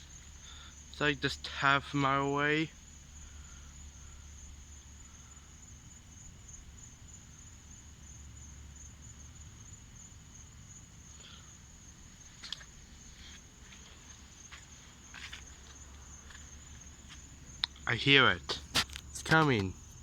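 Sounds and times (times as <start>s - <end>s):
night insects chirring: 0.0s - 20.0s.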